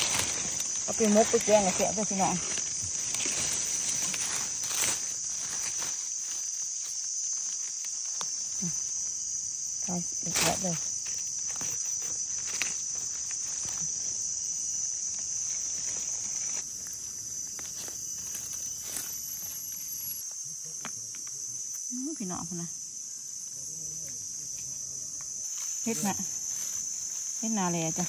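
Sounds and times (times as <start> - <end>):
dry leaves and twigs crackling: 0.0 - 22.2, 22.8 - 28.0
insects droning: 0.0 - 28.0.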